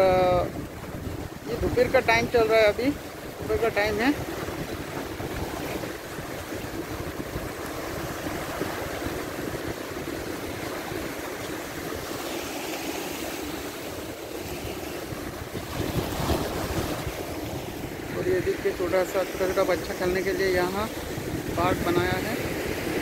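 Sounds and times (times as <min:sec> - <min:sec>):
waves washing against rocks: 0:00.0 - 0:23.0
wind rumbling on microphone: 0:00.0 - 0:23.0.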